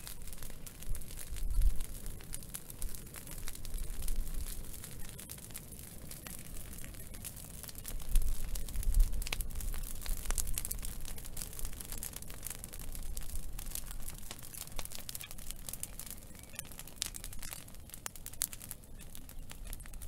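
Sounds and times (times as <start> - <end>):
fire crackling in twigs: 0.0 - 20.0.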